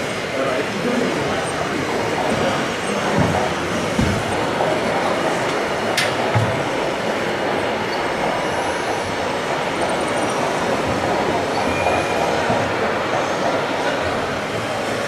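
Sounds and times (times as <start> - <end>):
din of busy exhibition hall: 0.0 - 15.0.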